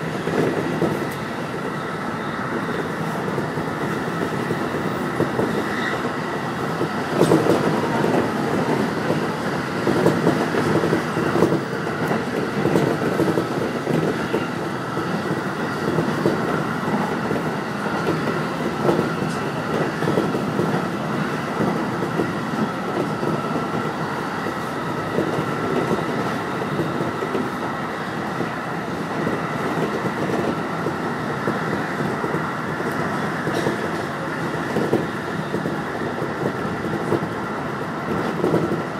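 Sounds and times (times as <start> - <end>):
train passing on opposite track: 0.0 - 38.9
train wheels rumbling on rail: 0.0 - 38.9.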